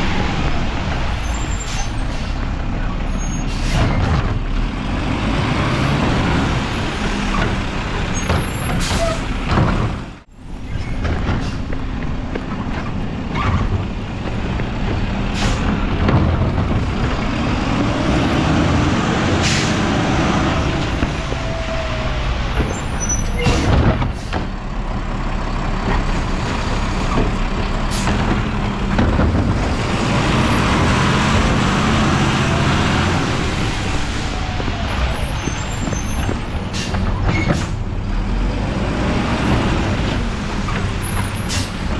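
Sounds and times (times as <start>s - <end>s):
garbage truck engine and machinery: 0.0s - 41.9s.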